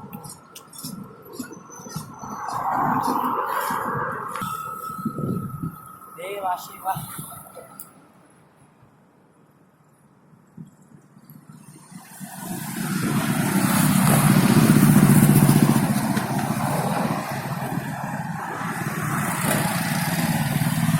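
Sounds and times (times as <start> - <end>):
vehicle engine: 0.0 - 7.8, 11.4 - 20.9.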